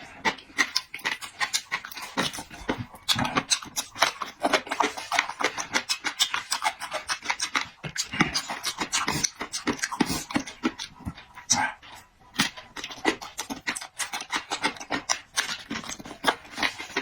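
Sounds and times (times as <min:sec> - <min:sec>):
person chewing and lip smacking: 0:00.0 - 0:17.0.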